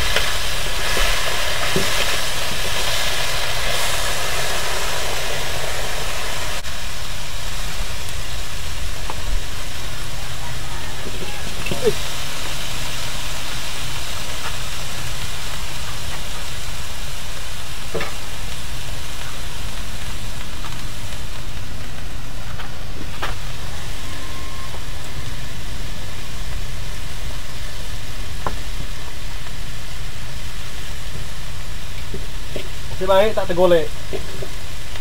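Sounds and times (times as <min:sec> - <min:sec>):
meat sizzling in a wok: 0:00.0 - 0:35.0.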